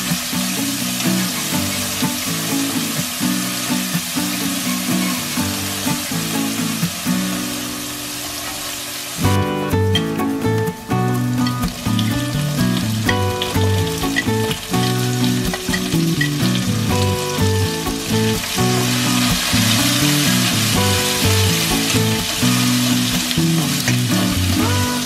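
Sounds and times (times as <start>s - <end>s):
background music: 0.0s - 25.0s
onions sizzling in hot oil: 0.0s - 25.0s.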